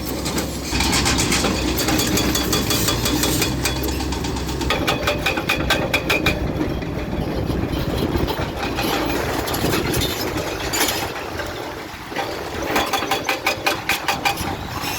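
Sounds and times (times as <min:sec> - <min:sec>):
bulldozer diesel engine rumble: 0:00.0 - 0:14.9.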